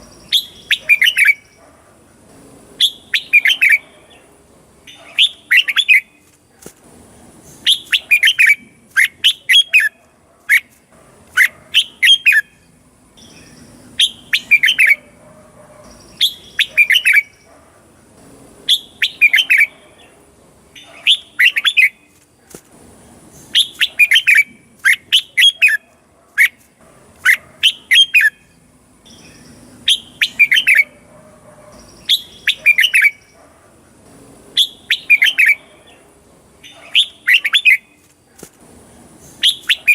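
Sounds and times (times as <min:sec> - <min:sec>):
bulbul singing warbled phrases: 0:00.0 - 0:06.3, 0:07.4 - 0:10.7, 0:11.3 - 0:15.2, 0:15.8 - 0:22.2, 0:23.2 - 0:25.8, 0:27.2 - 0:31.1, 0:31.7 - 0:38.0, 0:39.1 - 0:39.9.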